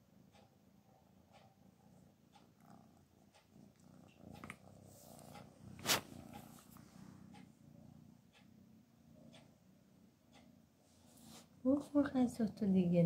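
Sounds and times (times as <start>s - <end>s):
cat purring: 0.0s - 13.0s
faint ticks: 0.2s - 12.7s.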